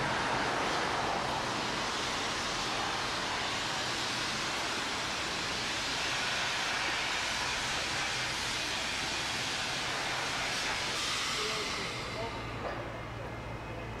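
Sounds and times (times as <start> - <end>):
traffic hiss: 0.0 - 14.0.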